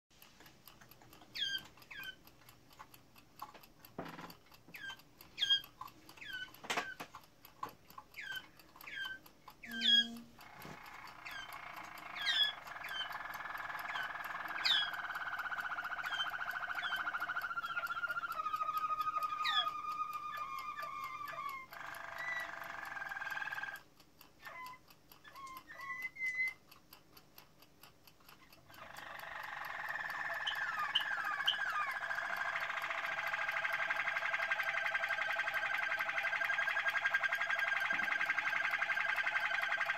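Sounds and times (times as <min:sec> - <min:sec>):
canary singing trills: 0:01.1 - 0:02.3, 0:04.1 - 0:07.1, 0:08.0 - 0:23.8, 0:24.4 - 0:26.6, 0:28.5 - 0:39.9.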